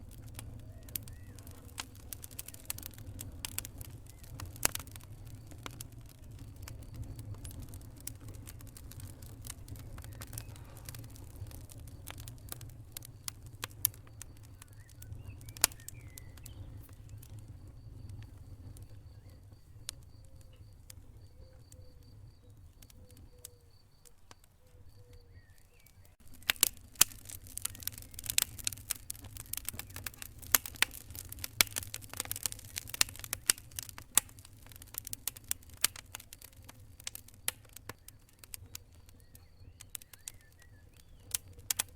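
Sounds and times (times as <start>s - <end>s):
low rumble of flames: 0.0s - 41.9s
wood fire crackling and popping: 0.0s - 41.9s.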